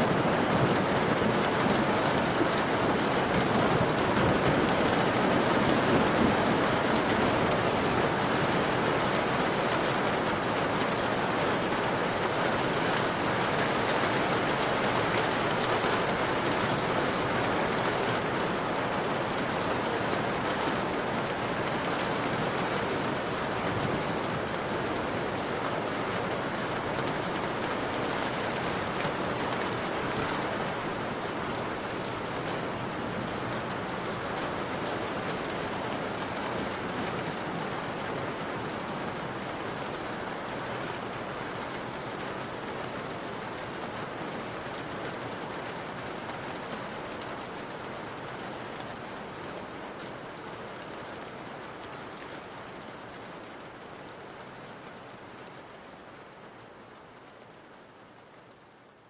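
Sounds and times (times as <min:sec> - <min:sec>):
rain on a window pane: 0:00.0 - 0:59.0.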